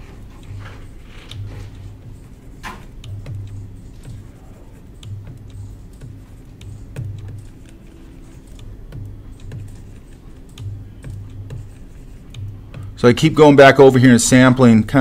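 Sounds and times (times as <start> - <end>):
computer mouse and keyboard clicks: 0.0 - 13.0.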